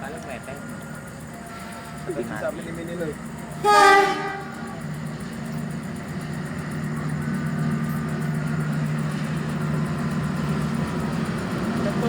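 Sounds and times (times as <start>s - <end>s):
diesel locomotive engine humming: 0.0s - 12.0s.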